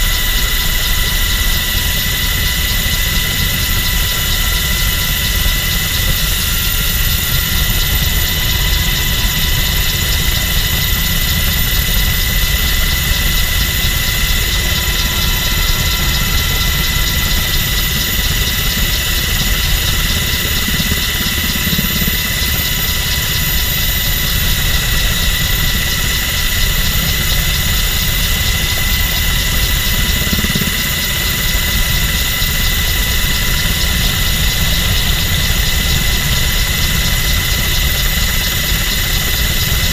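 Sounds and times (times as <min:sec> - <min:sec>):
helicopter rotor and engine noise: 0:00.0 - 0:39.9.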